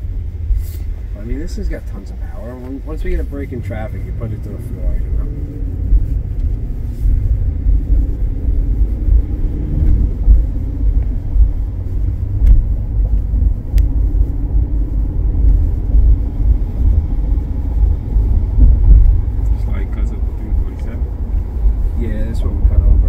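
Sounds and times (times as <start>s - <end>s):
diesel engine and road noise: 0.0s - 23.0s.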